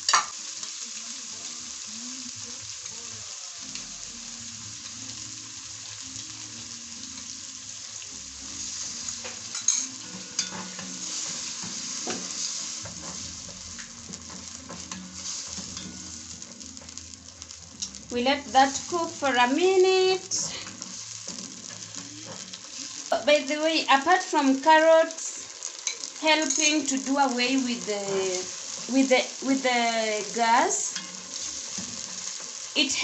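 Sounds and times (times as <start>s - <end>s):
food sizzling in a pan: 0.0s - 33.0s.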